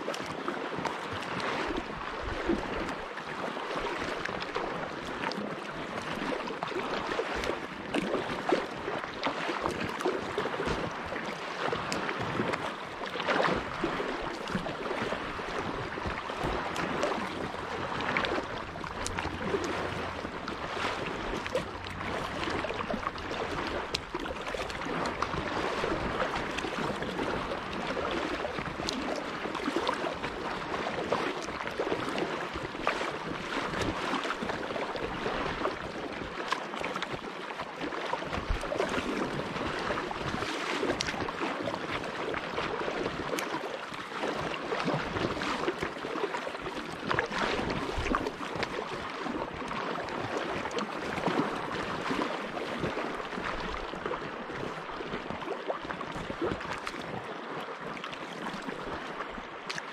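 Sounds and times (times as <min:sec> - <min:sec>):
small sharp splashes and drips: 0:00.0 - 0:59.9
water lapping against kayak hull: 0:00.0 - 0:59.9.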